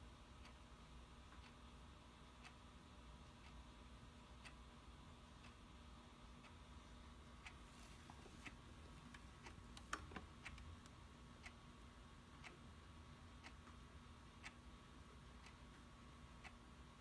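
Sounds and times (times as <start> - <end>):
clock ticking: 0.0 - 17.0.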